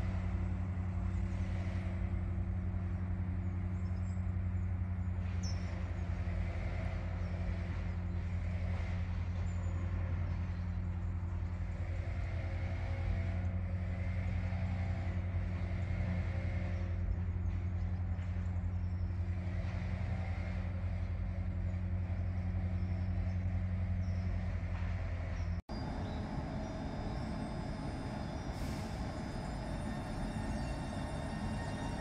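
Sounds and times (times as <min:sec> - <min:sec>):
diesel engines humming: 0:00.0 - 0:32.0
rough noisy rumble: 0:00.0 - 0:32.0.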